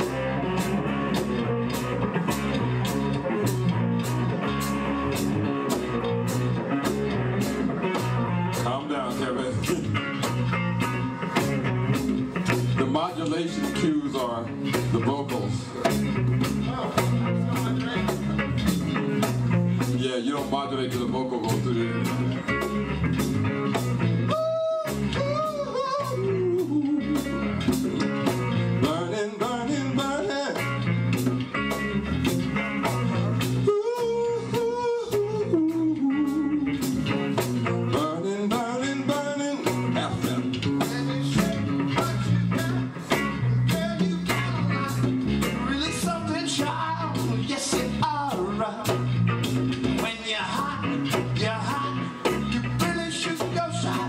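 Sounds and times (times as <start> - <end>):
electric bass: 0.0 - 54.0
electric guitar bent notes: 0.0 - 54.0.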